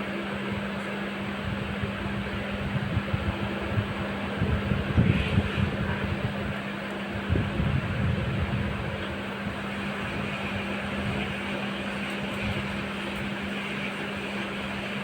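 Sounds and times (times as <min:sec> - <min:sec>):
constant low hum: 0:00.0 - 0:15.0
train running noise inside coach: 0:00.0 - 0:15.0.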